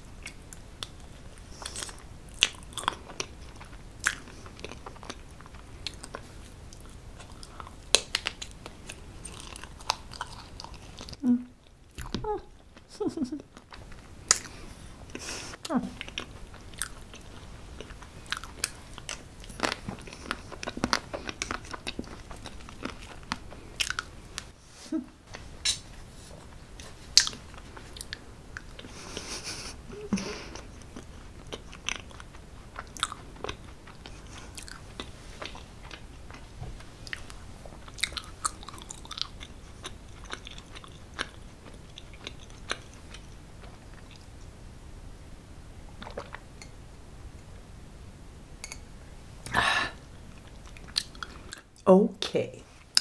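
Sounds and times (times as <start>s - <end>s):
person chewing food: 0.1s - 44.5s, 45.9s - 46.8s, 48.6s - 51.8s
mouth clicks and crunches: 0.2s - 11.2s, 11.9s - 24.5s, 25.3s - 44.3s, 49.4s - 51.8s.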